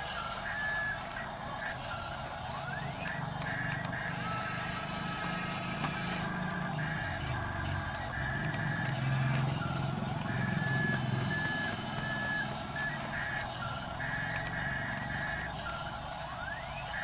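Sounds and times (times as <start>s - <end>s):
high electric whine: 0.0s - 17.0s
steady low hum: 0.0s - 17.0s.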